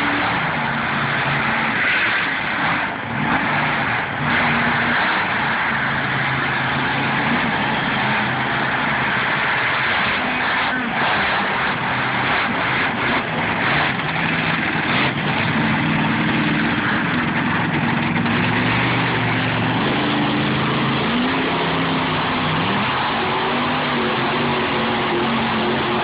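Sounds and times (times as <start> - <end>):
dense steady rushing noise: 0.0 - 26.0
monster truck engines revving: 0.0 - 26.0.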